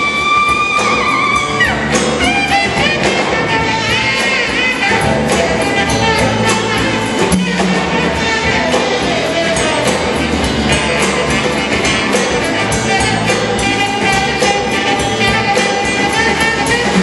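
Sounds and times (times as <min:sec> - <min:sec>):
bass guitar: 0:00.0 - 0:17.0
drums: 0:00.0 - 0:17.0
electric guitar: 0:00.0 - 0:17.0
saxophone: 0:00.0 - 0:17.0.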